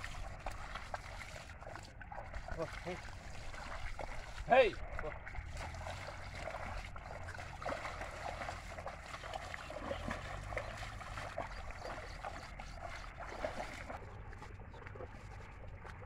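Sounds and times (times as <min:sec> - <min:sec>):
hooves churning water: 0:00.0 - 0:16.0
muddy water splashing: 0:00.0 - 0:16.0.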